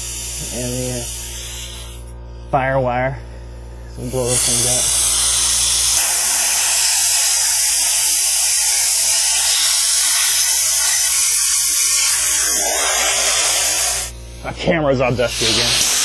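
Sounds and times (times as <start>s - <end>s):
compressed air hissing: 0.0s - 2.2s, 3.8s - 14.2s, 15.1s - 16.0s.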